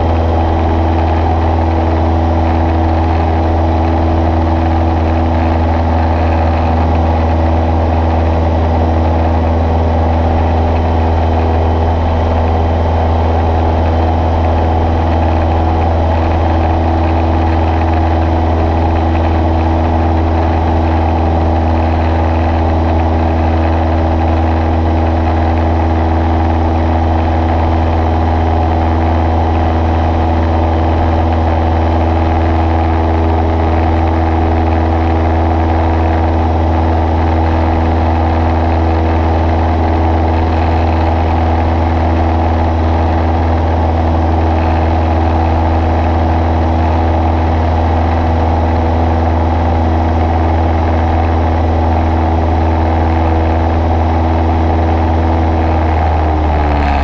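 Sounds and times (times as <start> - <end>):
plane engine droning in cabin: 0.0 - 57.0.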